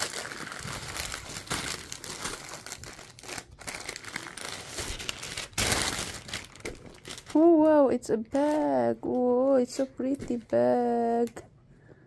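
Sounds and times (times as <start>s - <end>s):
plastic wrapping crinkling: 0.0s - 11.4s.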